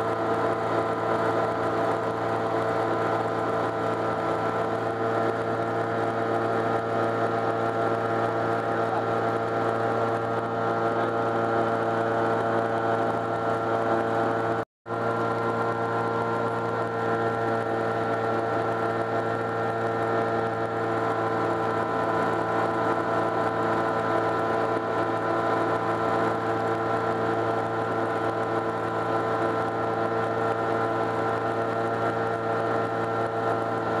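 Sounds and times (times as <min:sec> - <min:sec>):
light aircraft engine droning: 0:00.0 - 0:34.0.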